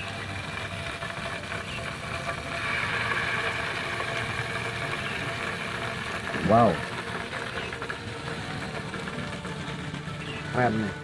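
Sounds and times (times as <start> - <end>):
fish fillets sizzling on a griddle: 0.0 - 10.9.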